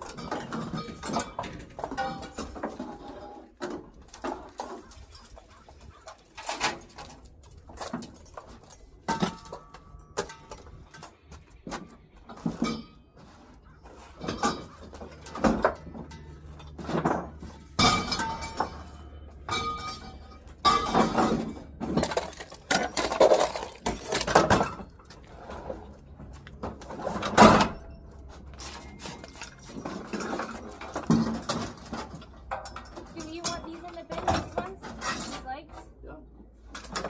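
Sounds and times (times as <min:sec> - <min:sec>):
junk objects clattering: 0:00.0 - 0:37.0.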